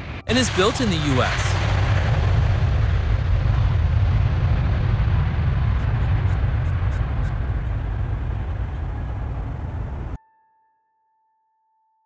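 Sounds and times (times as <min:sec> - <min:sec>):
jet engines roaring at takeoff: 0:00.0 - 0:10.2.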